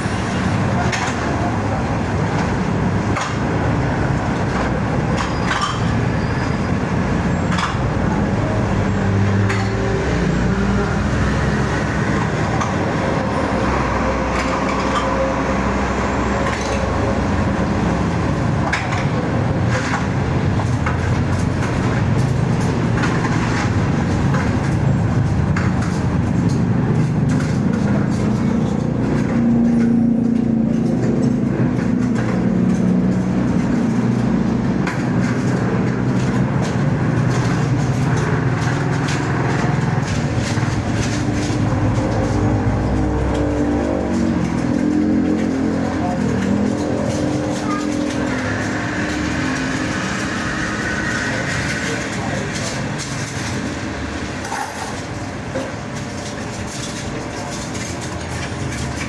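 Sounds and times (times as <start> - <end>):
rattles and knocks: 0.0 - 59.0
road noise: 0.0 - 59.0
vehicle engine hum: 0.0 - 59.0.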